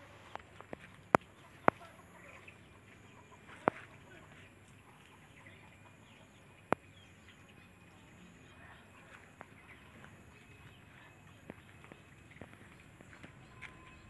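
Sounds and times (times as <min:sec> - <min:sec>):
faint outdoor background: 0:00.0 - 0:14.0.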